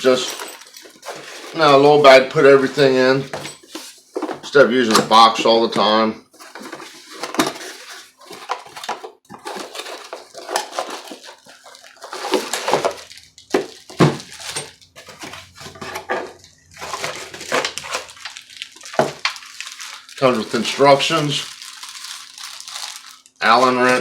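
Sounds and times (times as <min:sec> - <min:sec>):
hard items knocking and clattering: 0:00.0 - 0:24.0
packaging rustling: 0:00.0 - 0:24.0.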